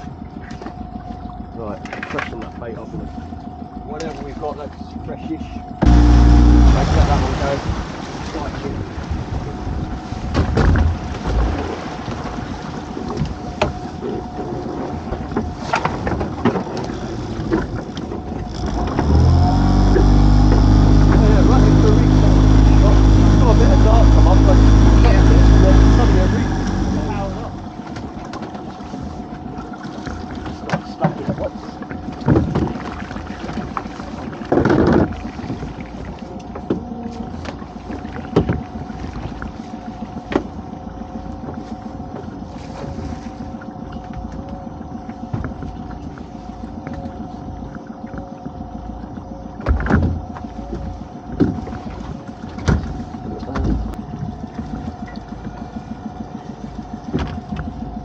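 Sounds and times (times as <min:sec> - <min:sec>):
boat motor humming: 0:00.0 - 0:58.0
rope and gear knocking on hull: 0:09.8 - 0:58.0.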